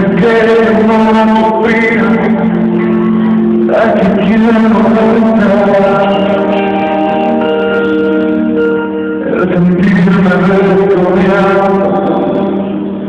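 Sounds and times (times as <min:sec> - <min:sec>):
man singing: 0:00.0 - 0:08.0, 0:09.1 - 0:13.0
guitar and band playing: 0:00.0 - 0:13.0.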